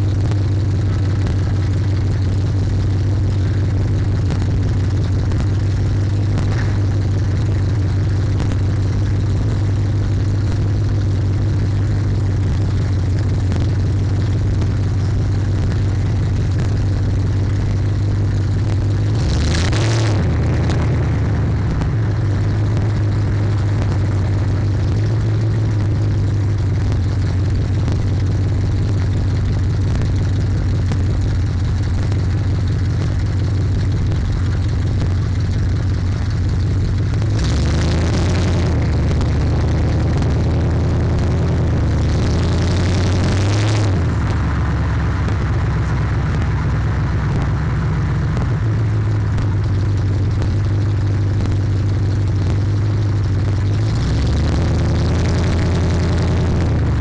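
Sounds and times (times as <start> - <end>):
distorted car engine and exhaust: 0.0 - 57.0.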